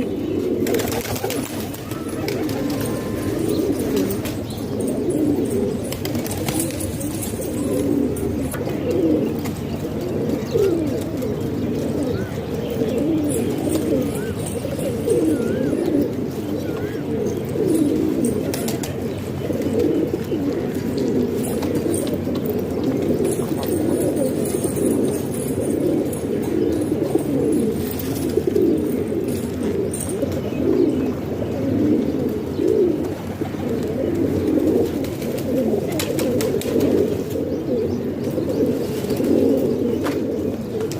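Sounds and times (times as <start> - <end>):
pigeons cooing: 0.0 - 40.9.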